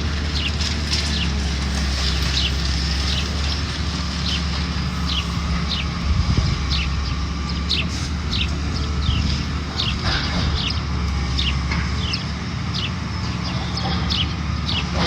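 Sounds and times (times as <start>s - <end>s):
machinery engine rumble: 0.0s - 15.0s.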